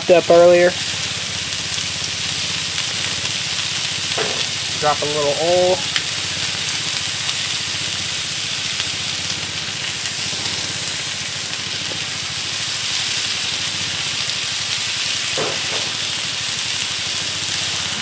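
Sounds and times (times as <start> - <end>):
food sizzling on a griddle: 0.0 - 18.0.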